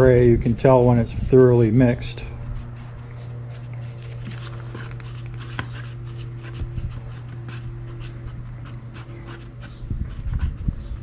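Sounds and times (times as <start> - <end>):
stick scraping and stirring: 0.0 - 10.8
steady low hum: 0.0 - 11.0.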